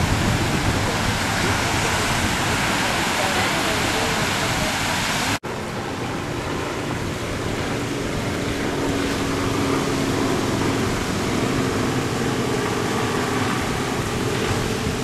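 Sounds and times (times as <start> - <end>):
surf breaking: 0.0 - 5.4, 6.9 - 15.0
wind on microphone: 0.0 - 15.0.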